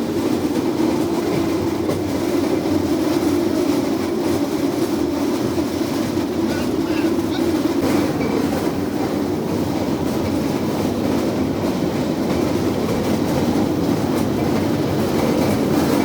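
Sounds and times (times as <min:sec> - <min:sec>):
steel wheels rolling on rails: 0:00.0 - 0:16.0.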